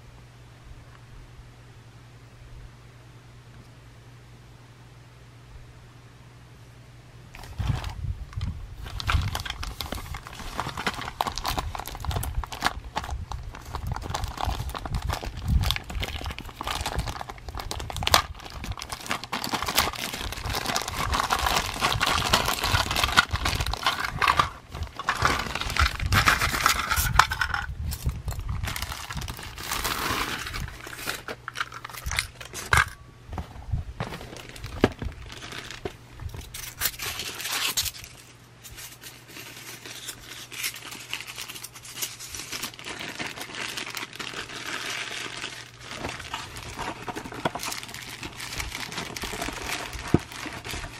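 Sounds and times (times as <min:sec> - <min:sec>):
plastic bag crinkling: 0:07.4 - 0:50.9.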